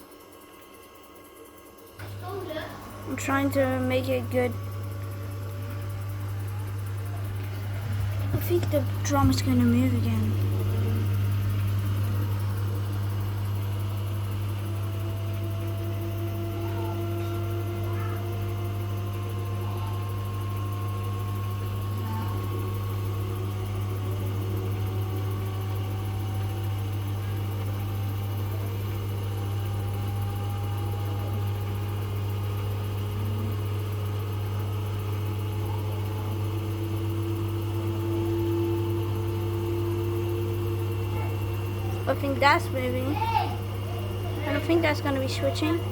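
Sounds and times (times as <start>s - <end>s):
motor whine rising in pitch: 0.0s - 45.9s
washing machine hum: 0.0s - 45.9s.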